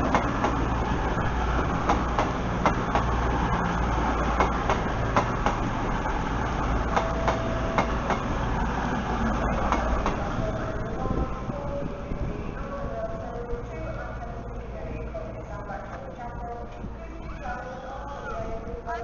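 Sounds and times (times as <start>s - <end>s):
passenger train rumble: 0.0s - 19.0s.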